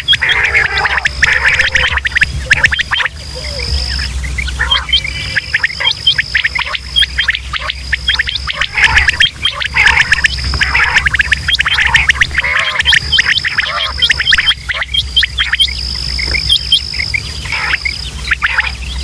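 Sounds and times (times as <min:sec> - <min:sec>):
low hum: 0:00.0 - 0:19.0
quail chirping call: 0:00.0 - 0:19.0.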